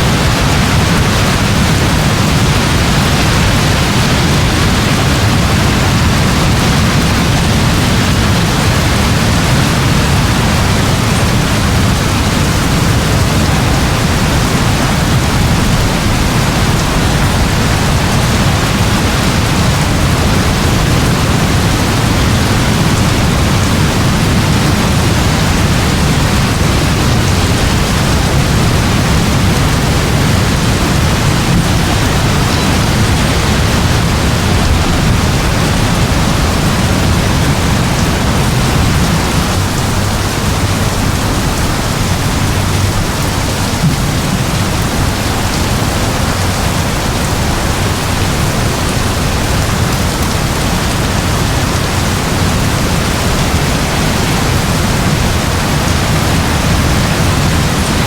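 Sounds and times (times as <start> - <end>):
heavy rain in a forest: 0.0 - 58.0.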